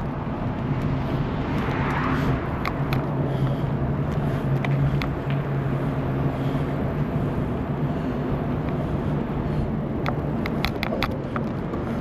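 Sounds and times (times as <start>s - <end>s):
bicycle rolling noise: 0.0s - 12.0s
wind: 0.0s - 12.0s.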